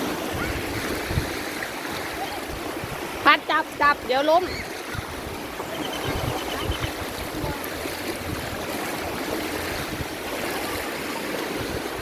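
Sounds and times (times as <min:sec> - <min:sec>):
wind on microphone: 0:00.0 - 0:03.3, 0:04.0 - 0:12.0
sea water rushing: 0:00.0 - 0:12.0.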